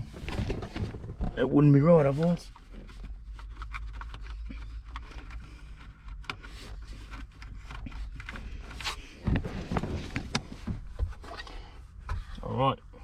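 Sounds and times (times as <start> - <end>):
hands handling plastic parts: 0.0 - 11.4.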